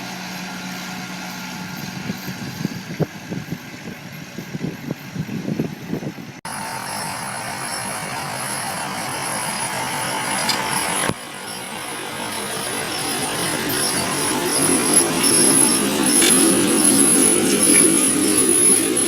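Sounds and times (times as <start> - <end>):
farm machine engine clattering: 0.0 - 19.0
machine noise with high whine: 0.0 - 19.0.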